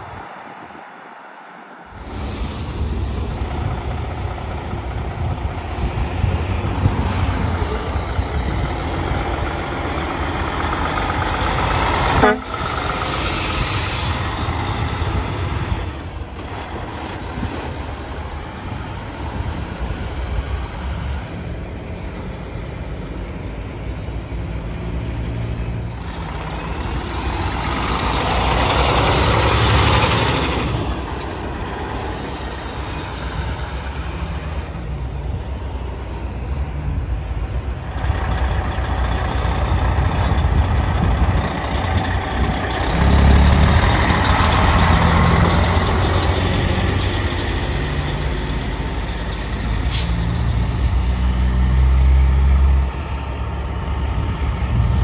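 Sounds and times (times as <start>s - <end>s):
diesel truck engine pulling away: 1.9s - 55.0s.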